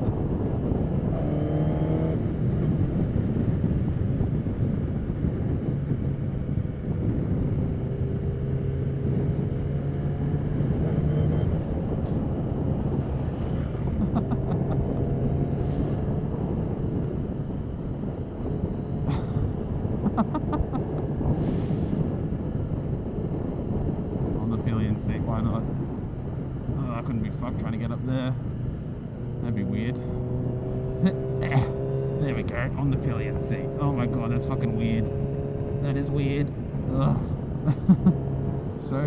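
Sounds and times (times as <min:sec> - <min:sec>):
motorcycle engine cruising: 0:00.0 - 0:39.0
wind noise on microphone: 0:00.0 - 0:39.0.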